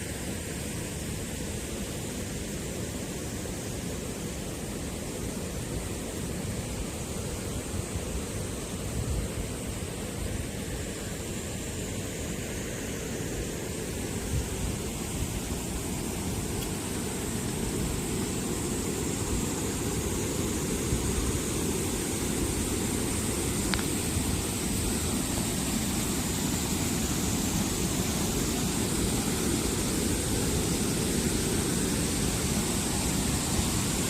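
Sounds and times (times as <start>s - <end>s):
stream water rushing: 0.0s - 34.0s.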